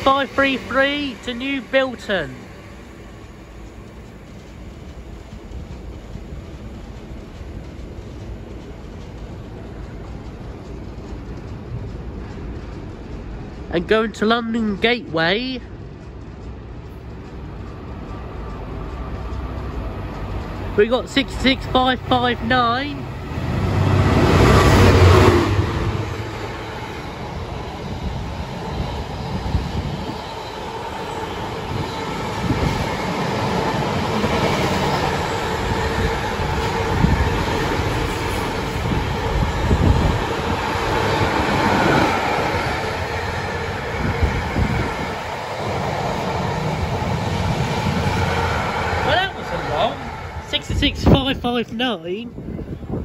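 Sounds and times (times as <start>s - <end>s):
diesel locomotive engine hum: 0.0s - 53.0s
train wagons rumbling past: 0.0s - 53.0s.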